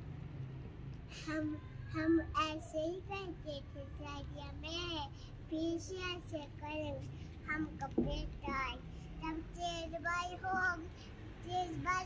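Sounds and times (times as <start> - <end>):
girl singing: 1.2 - 12.0.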